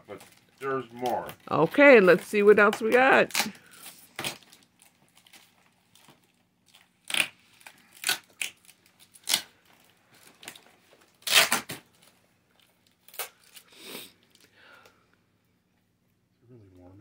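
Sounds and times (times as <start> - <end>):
cardboard and plastic packaging rustling: 0.0 - 14.5.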